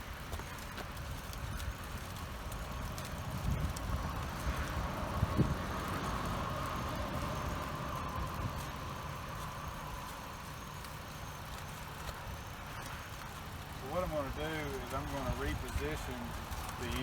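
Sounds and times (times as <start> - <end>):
car engine idling: 0.0 - 17.0
faint steady whine: 0.0 - 17.0.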